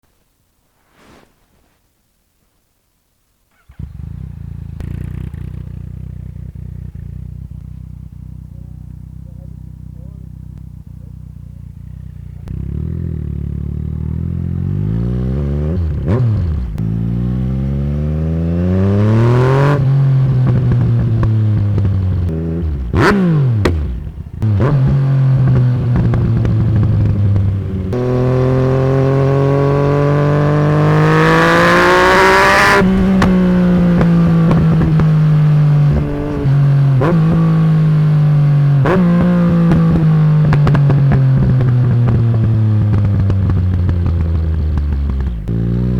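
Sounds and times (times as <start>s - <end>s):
motorcycle engine accelerating: 3.5s - 45.9s.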